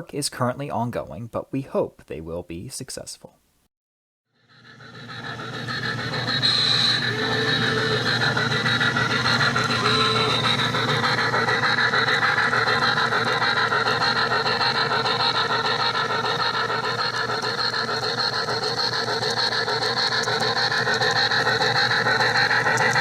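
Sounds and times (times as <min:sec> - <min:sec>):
model steam locomotive running: 0:04.5 - 0:23.0.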